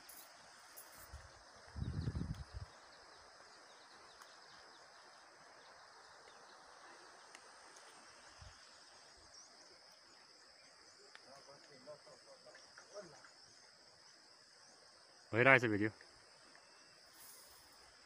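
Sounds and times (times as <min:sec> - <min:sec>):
insect chirring: 0:00.0 - 0:18.0.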